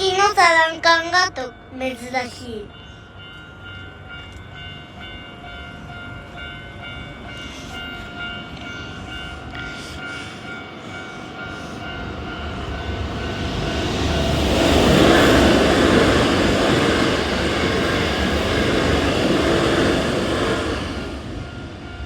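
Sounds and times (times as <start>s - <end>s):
level-crossing warning bell: 0.0s - 22.0s
train rumble: 0.0s - 22.0s.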